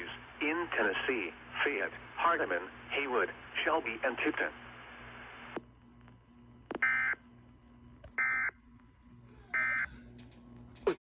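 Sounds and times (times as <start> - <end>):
low receiver hum: 0.0 - 11.0.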